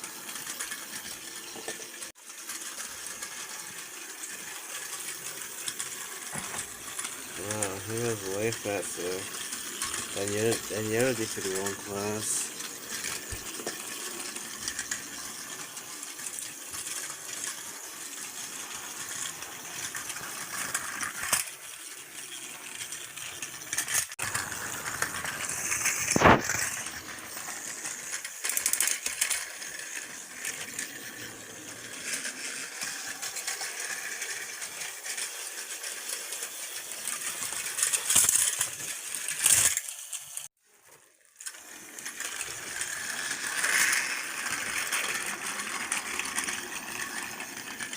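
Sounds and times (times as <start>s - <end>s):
toy train motors whirring: 0.0s - 47.9s
wheels rattling over track joints: 0.0s - 47.9s.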